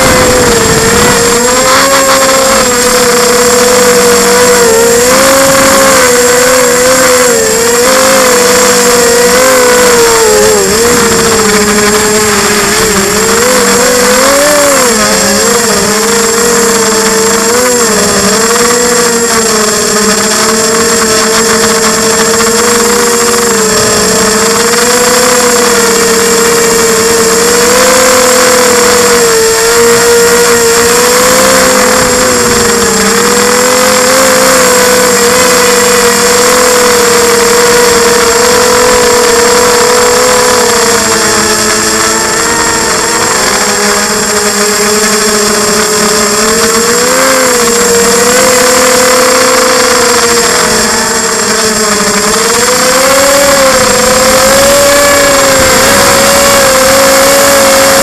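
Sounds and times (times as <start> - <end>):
drone propellers whining: 0.0 - 58.0.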